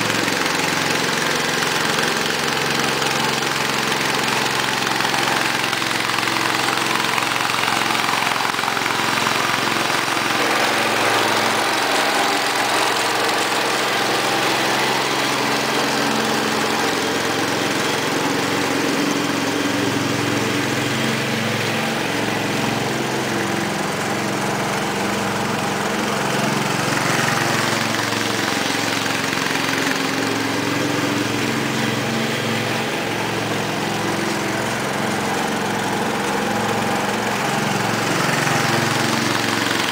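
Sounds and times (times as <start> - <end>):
lawn tractor engine mowing: 0.0 - 39.9.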